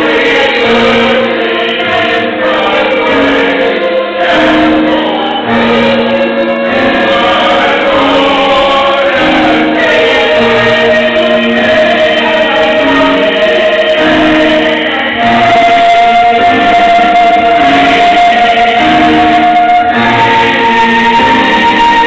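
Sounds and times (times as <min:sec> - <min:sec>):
mixed choir singing: 0:00.0 - 0:22.0.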